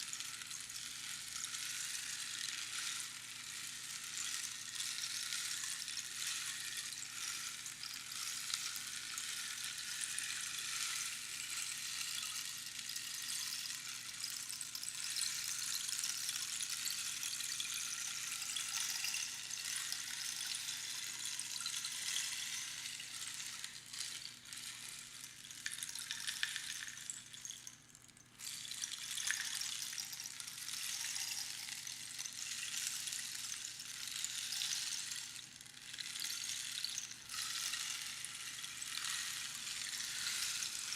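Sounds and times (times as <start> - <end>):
rainstick pebbles trickling: 0.0 - 40.9.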